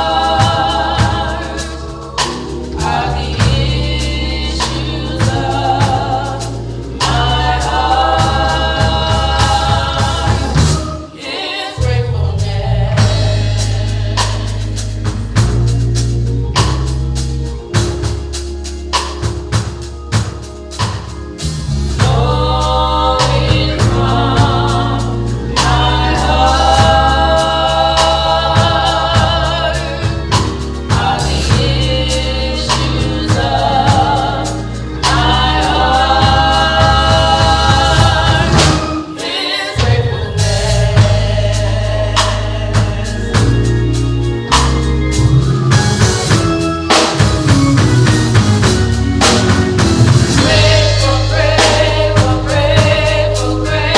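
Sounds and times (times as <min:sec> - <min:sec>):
gospel choir singing with band: 0:00.0 - 0:53.9.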